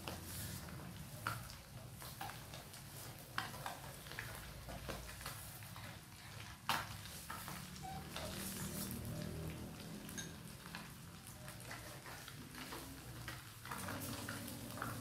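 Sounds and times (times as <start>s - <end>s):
eggs sizzling in a pan: 0.0s - 15.0s.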